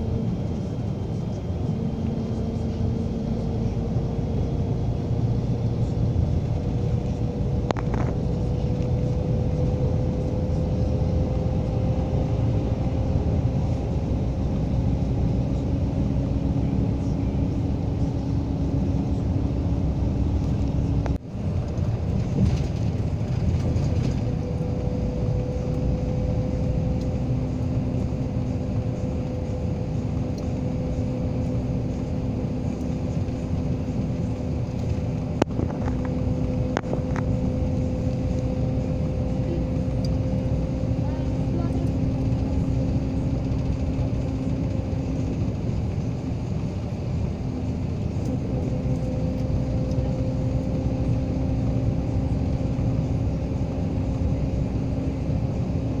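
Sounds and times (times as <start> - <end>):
road and engine drone: 0.0 - 56.0.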